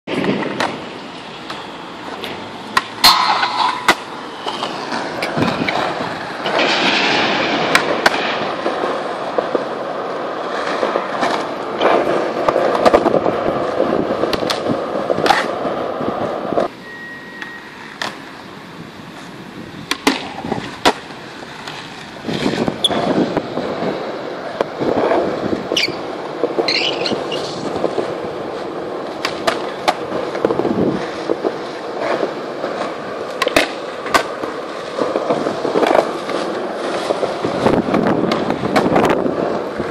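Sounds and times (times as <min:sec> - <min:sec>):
skateboard wheels rolling on concrete: 0:00.0 - 0:39.9
skateboard popping and landing: 0:00.1 - 0:16.7, 0:19.1 - 0:39.9.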